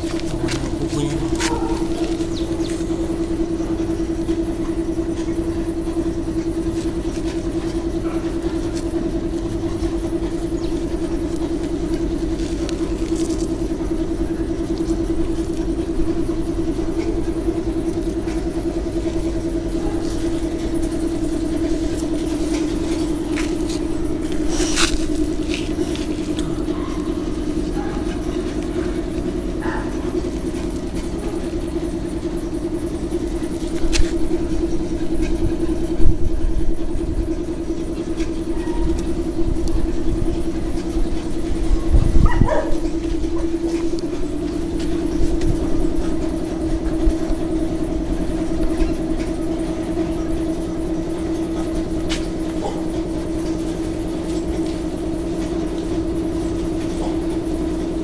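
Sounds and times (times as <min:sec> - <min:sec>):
motor humming: 0:00.0 - 0:58.0.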